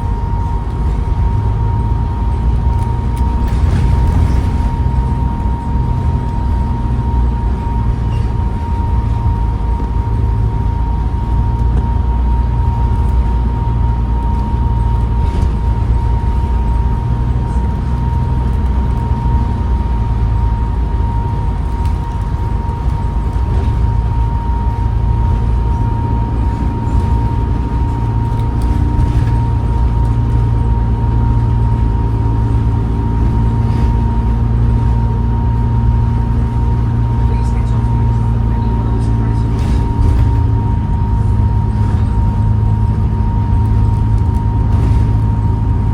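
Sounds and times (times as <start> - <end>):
bus engine rumbling: 0.0 - 45.9
high gearbox whine: 0.0 - 45.9.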